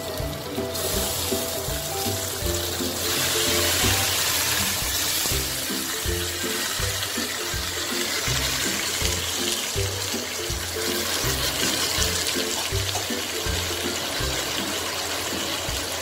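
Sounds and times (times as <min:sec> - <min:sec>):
background music with bass line: 0:00.0 - 0:16.0
beef sizzling in a wok: 0:00.0 - 0:16.0.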